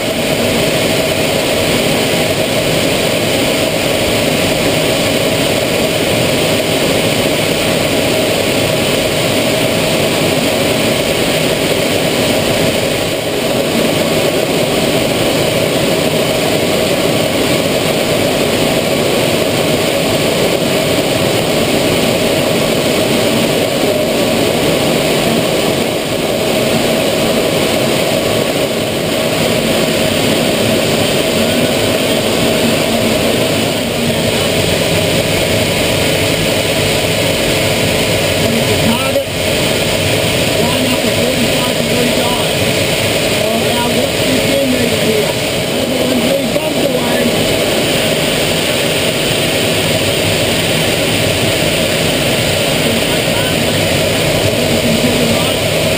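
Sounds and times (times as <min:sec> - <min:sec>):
jet engine roar: 0:00.0 - 0:55.9.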